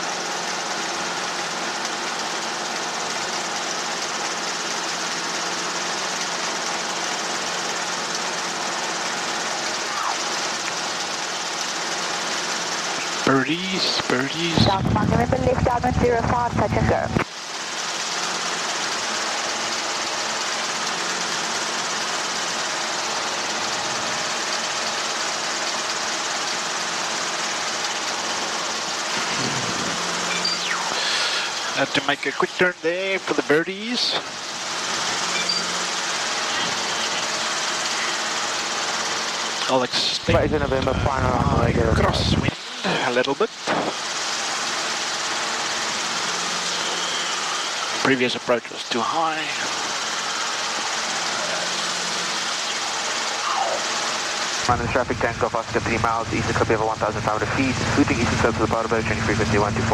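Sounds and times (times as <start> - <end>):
constant hiss: 0.0 - 59.9
helicopter engine and rotor hum: 0.0 - 59.9.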